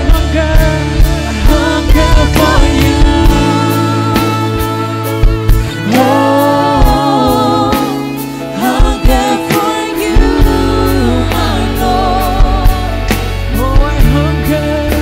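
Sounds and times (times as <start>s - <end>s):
bass notes: 0.0s - 15.0s
person singing with vibrato: 0.0s - 15.0s
steady drum beat: 0.0s - 15.0s.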